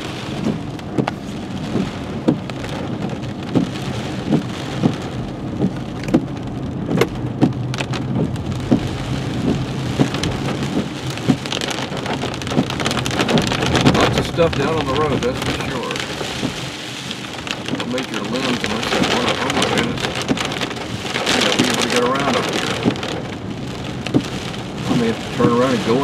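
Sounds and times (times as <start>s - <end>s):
rain and wet road noise: 0.0s - 26.0s.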